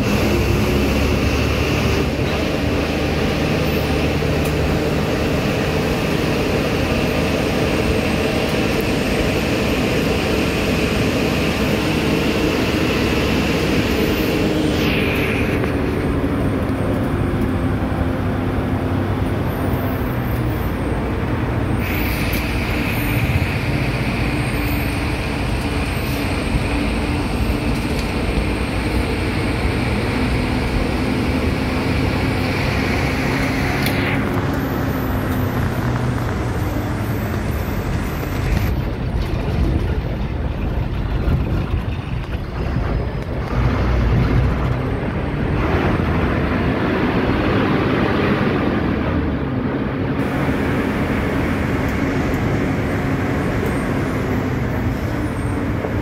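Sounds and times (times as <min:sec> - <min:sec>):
bus engine running: 0:00.0 - 0:56.0
road rumble: 0:00.0 - 0:56.0.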